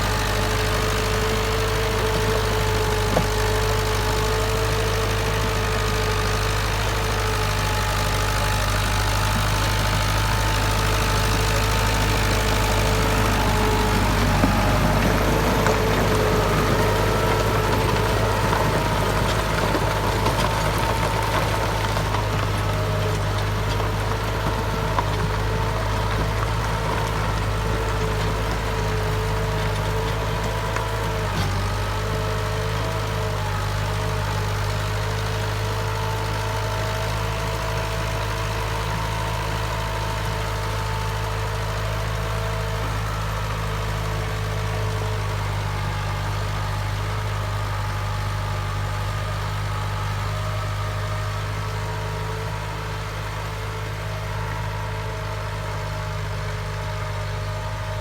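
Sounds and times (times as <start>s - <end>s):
tractor diesel engine humming: 0.0s - 58.0s.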